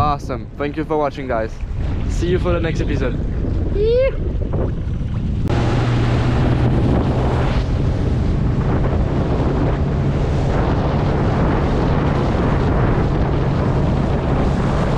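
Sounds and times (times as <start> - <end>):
wind noise on microphone: 0.0 - 14.9
outboard motor droning: 1.6 - 14.9.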